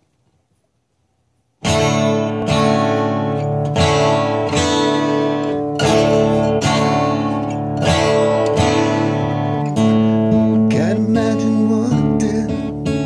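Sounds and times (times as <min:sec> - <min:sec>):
acoustic guitar strumming chords: 0:01.6 - 0:13.0.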